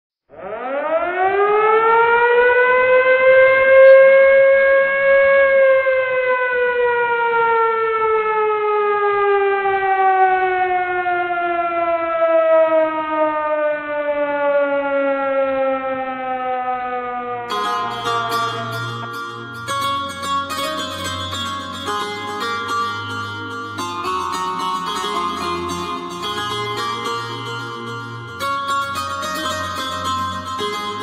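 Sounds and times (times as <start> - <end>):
siren wailing: 0.3 - 31.0.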